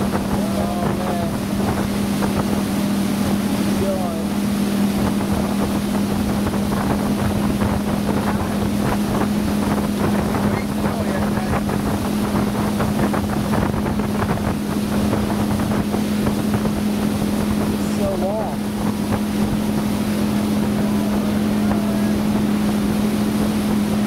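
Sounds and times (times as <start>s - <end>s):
motorboat engine running: 0.0s - 24.0s
water rushing past hull: 0.0s - 24.0s
wind buffeting microphone: 0.0s - 24.0s.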